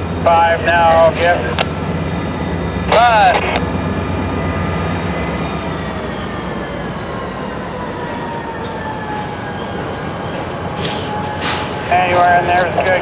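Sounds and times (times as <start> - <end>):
diesel locomotive rumble: 0.0 - 13.0
locomotive whine falling in pitch: 0.0 - 13.0.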